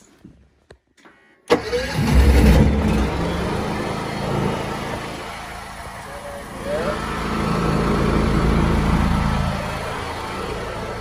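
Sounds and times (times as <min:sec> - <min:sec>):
generator engine starting and running: 0:01.4 - 0:11.0.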